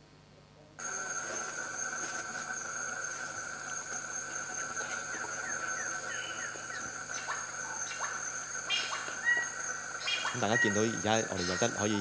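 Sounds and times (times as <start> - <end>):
insect drone: 0.8 - 12.0.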